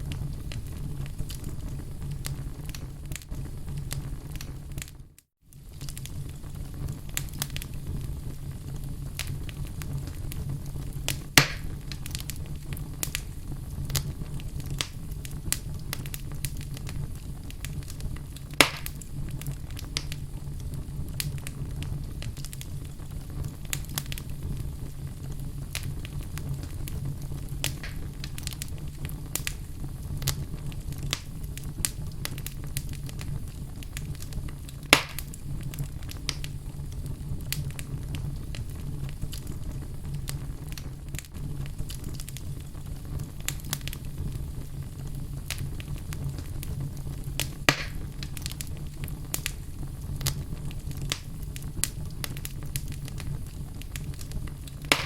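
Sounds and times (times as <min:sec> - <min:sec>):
burning wood popping: 0:00.0 - 0:55.0
fire crackling: 0:00.0 - 0:55.0
fire flames rumbling: 0:00.0 - 0:55.0.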